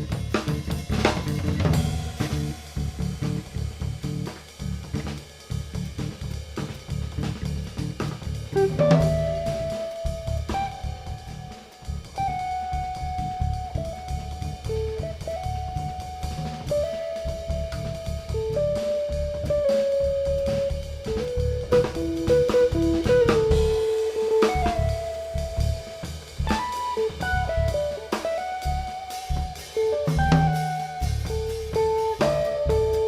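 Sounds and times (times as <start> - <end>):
drum kit groove: 0.0 - 33.0.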